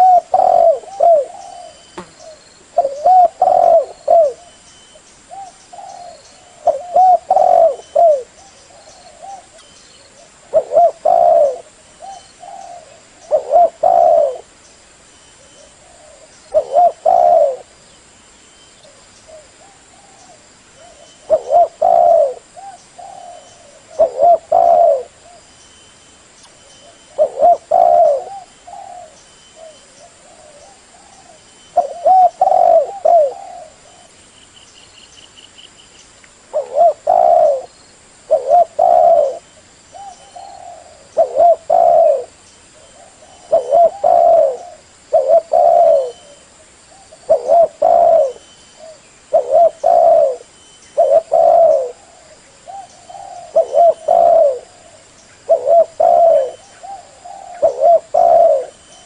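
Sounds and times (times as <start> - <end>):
dove cooing: 0.0 - 14.5, 15.4 - 17.8, 18.9 - 25.5, 26.8 - 34.2, 36.5 - 59.0.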